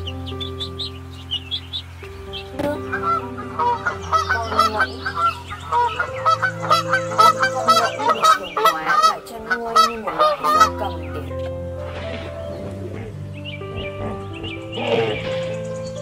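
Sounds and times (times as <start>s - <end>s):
geese honking: 2.7s - 15.8s.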